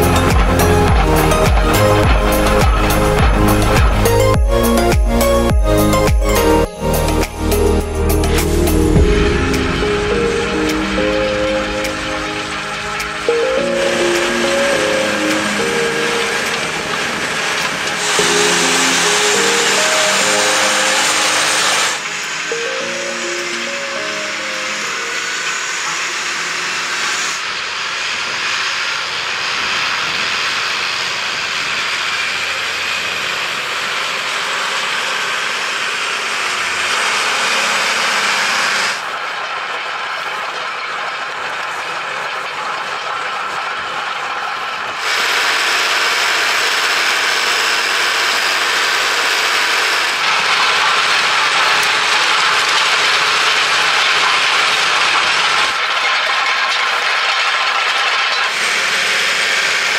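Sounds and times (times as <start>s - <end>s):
metallic rattle of farm implement: 0.0s - 6.1s, 11.8s - 59.9s
tractor engine under load: 0.0s - 59.9s.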